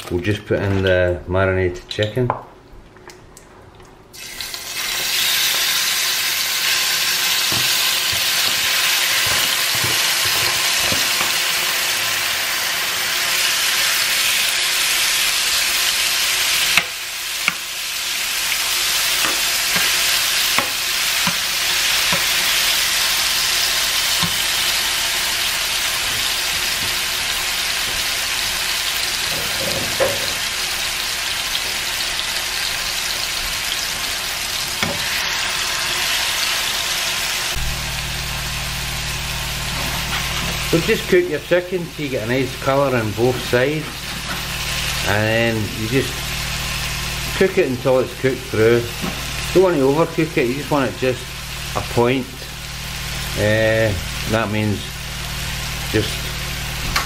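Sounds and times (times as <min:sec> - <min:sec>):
chicken sizzling in a frying pan: 0:04.2 - 0:57.0.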